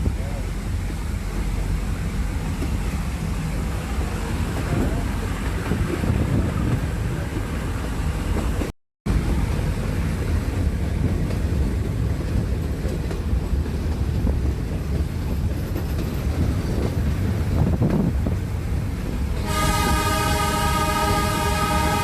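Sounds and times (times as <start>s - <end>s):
train rumbling along track: 0.0s - 22.0s.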